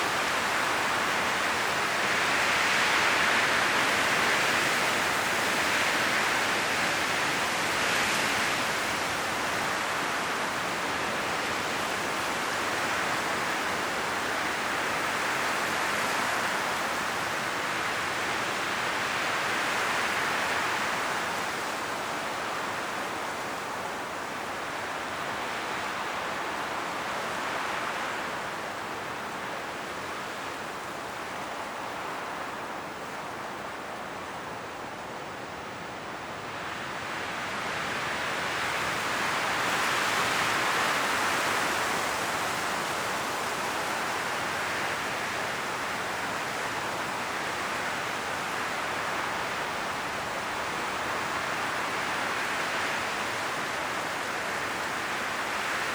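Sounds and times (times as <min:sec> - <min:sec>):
wind rushing through leaves: 0:00.0 - 0:55.9.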